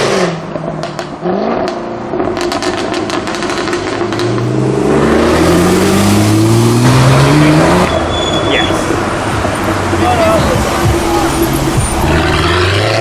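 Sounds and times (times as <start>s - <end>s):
car engine accelerating: 0.0s - 13.0s
car exhaust crackling and popping: 0.0s - 13.0s.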